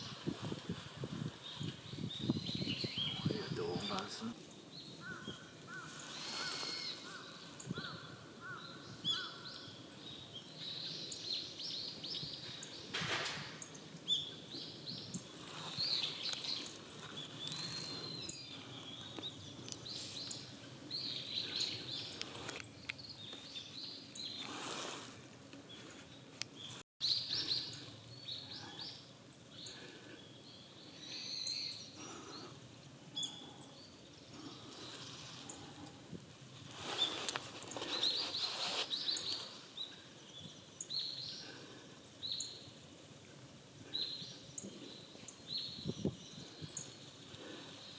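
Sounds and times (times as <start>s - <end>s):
songbirds chirping: 0.0s - 47.9s
woodland background noise: 0.0s - 47.9s.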